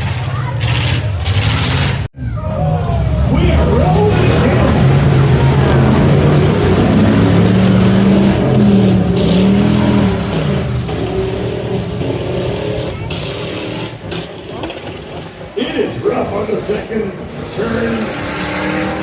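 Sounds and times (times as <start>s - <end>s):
truck engines revving hard: 0.0s - 19.0s.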